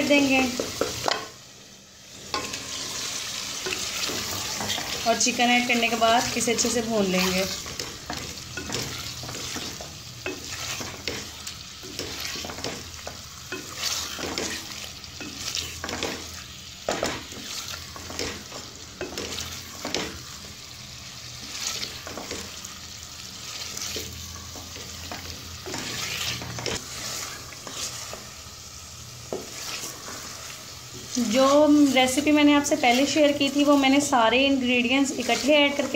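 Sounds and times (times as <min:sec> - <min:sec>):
masala sizzling: 0:00.0 - 0:35.9
spatula scraping pot: 0:02.3 - 0:20.4, 0:21.4 - 0:22.4, 0:23.5 - 0:28.3, 0:29.3 - 0:34.1, 0:34.9 - 0:35.9.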